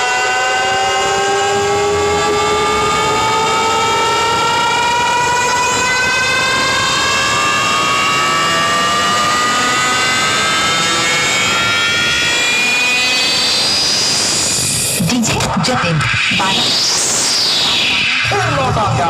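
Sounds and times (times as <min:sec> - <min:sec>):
buzzy rising siren-like tone: 0:00.0 - 0:19.0.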